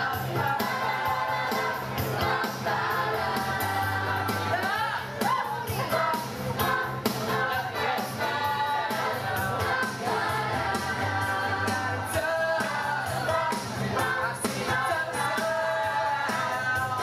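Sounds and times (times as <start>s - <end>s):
bass line: 0.0s - 17.0s
choir singing amplified: 0.0s - 17.0s.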